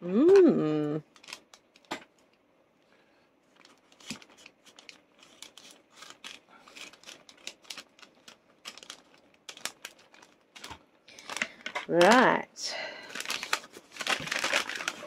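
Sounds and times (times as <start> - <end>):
card packet rustling and crinkling: 1.1 - 2.4, 3.4 - 12.4, 13.0 - 15.0.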